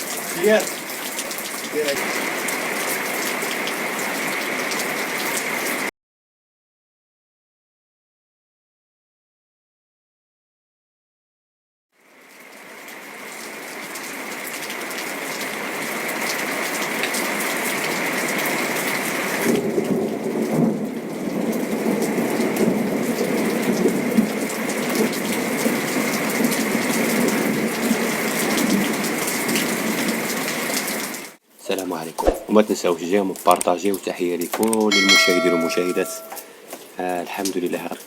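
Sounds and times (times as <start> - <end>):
heavy rain pouring: 0.0 - 5.9, 12.1 - 38.0.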